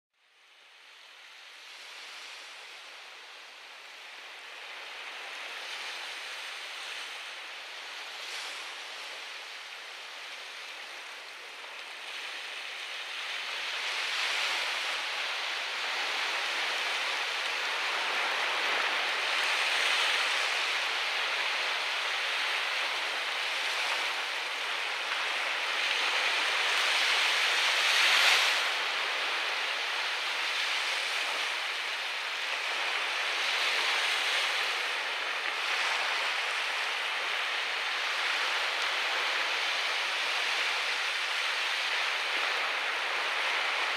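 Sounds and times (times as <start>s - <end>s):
surf breaking on beach: 4.5s - 43.9s.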